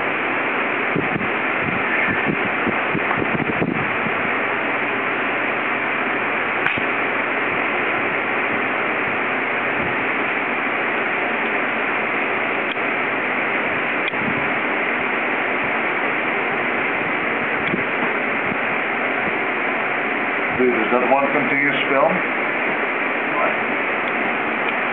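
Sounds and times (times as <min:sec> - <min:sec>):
electric fan running: 0:00.0 - 0:24.9.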